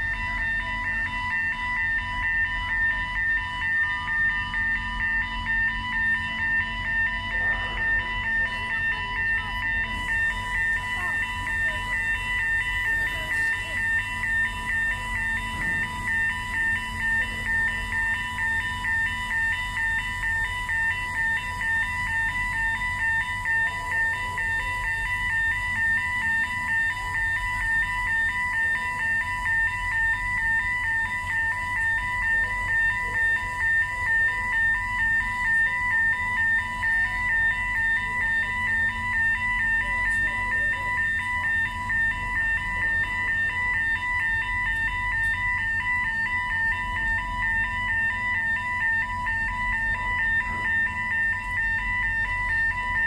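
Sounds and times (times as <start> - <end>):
warning alarm beeping: 0.0 - 53.0
ship engines rumbling: 5.6 - 53.0.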